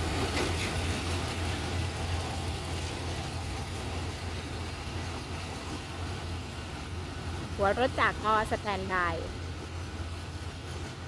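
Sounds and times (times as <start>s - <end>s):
diesel locomotive engine drone: 0.0s - 11.0s
moving train rushing noise: 0.0s - 11.0s.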